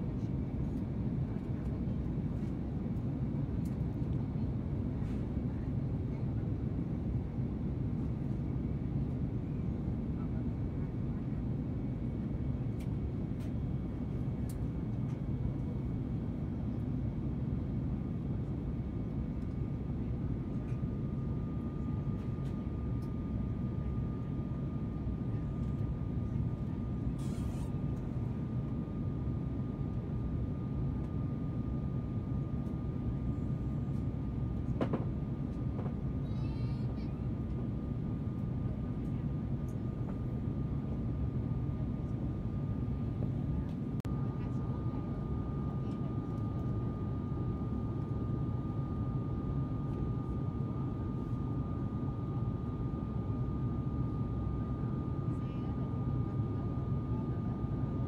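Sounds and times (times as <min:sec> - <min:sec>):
airplane cabin rumble: 0:00.0 - 0:58.0
faint steady whine: 0:06.4 - 0:58.0.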